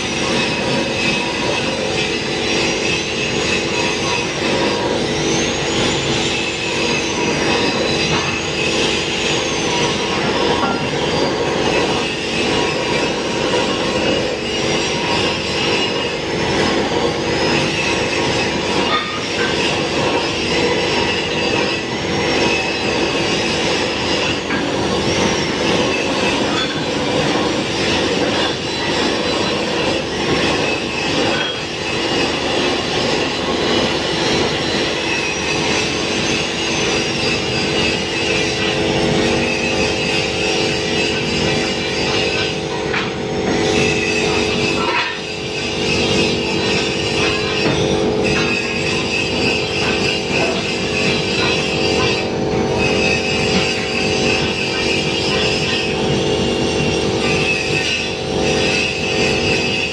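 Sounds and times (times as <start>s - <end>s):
angle grinders whining on steel: 0.0s - 59.9s.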